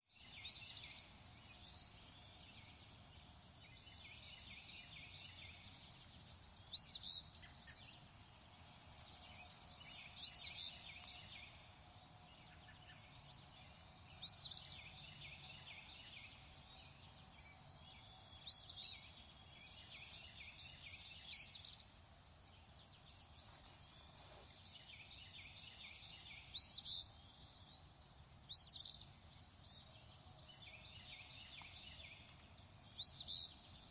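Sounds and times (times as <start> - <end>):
faint bird chirping: 0.1 - 33.9.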